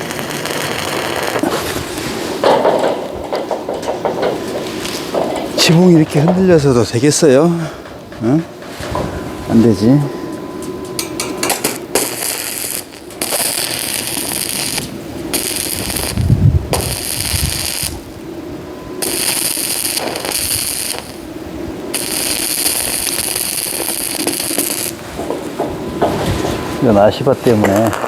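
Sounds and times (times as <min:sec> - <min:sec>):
arc welding crackling: 0:00.0 - 0:08.4, 0:09.6 - 0:28.0.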